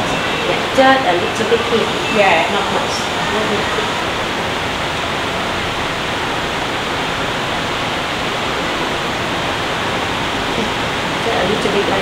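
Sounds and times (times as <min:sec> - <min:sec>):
air conditioning hiss: 0:00.0 - 0:12.0.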